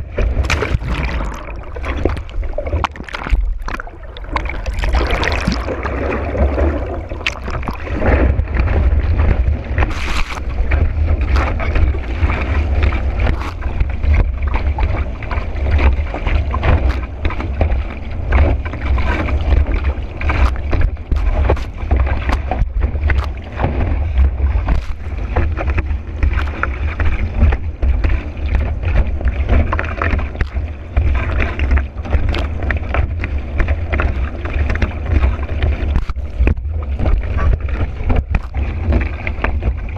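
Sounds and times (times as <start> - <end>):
hull slapping on waves: 0.0 - 39.9
water rushing under a board: 0.0 - 39.9
wind rumble on microphone: 0.0 - 39.9.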